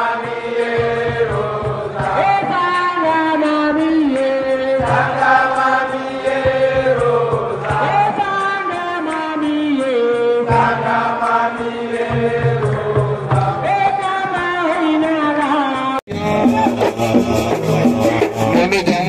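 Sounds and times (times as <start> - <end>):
chant-like singing: 0.0 - 19.0.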